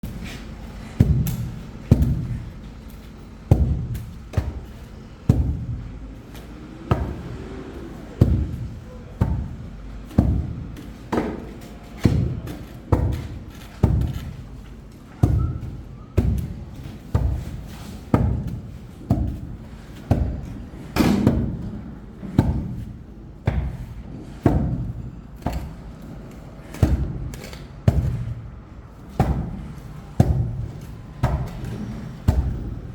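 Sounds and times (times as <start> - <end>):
dull thuds: 0.8 - 2.5, 3.5 - 6.0, 8.1 - 14.4, 15.2 - 25.9, 26.7 - 32.9.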